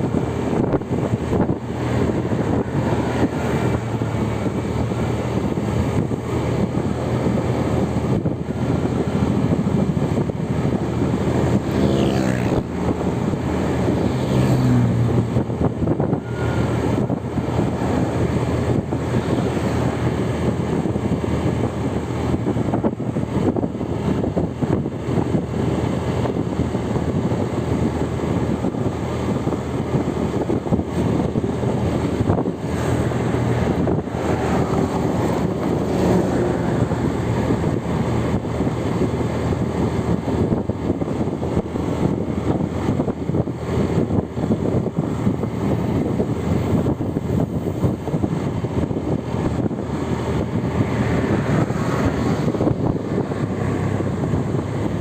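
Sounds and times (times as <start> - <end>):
road vehicle rumble: 0.0 - 55.0
wind buffeting microphone: 0.0 - 55.0.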